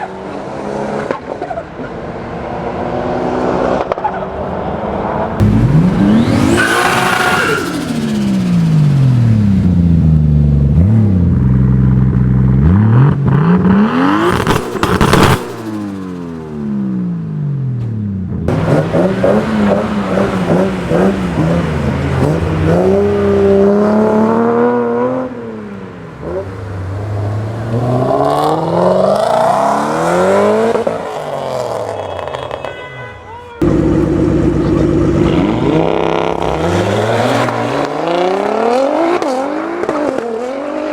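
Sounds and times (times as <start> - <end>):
car engines revving and accelerating: 0.0 - 32.6, 33.6 - 40.9.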